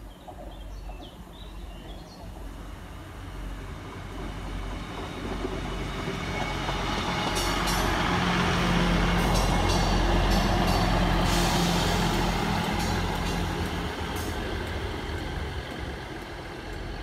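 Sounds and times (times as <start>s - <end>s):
diesel train approaching: 0.0s - 17.0s.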